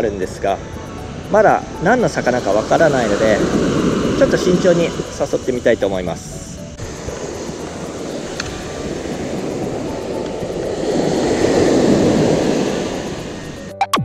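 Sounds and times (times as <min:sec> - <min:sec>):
surf breaking on beach: 0:01.1 - 0:13.7.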